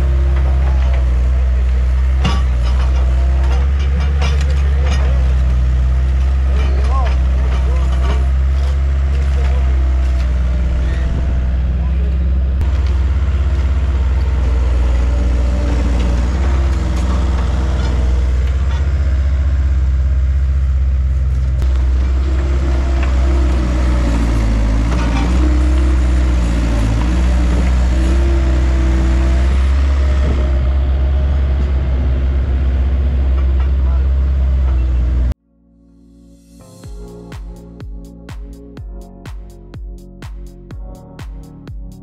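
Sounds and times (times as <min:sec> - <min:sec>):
loader diesel engine running: 0:00.0 - 0:35.4.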